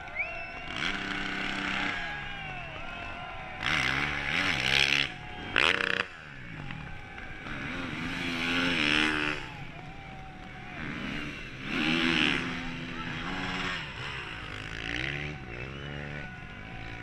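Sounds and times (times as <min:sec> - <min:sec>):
dirt bike engines revving past: 0:00.0 - 0:17.0.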